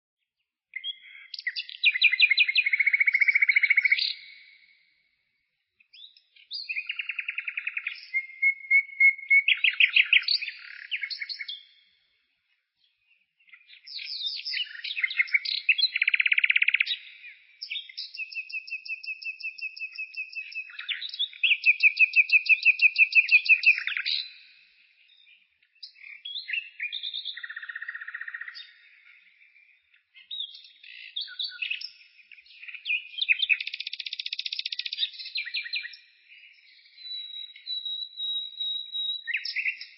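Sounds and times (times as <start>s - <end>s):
songbird singing trills: 0.7s - 4.9s, 5.5s - 12.0s, 12.8s - 39.9s.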